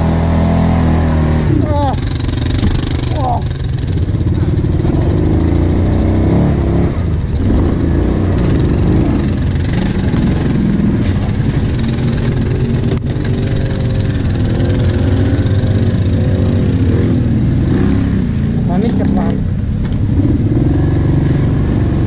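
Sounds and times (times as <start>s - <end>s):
engine revving under load: 0.0s - 22.0s.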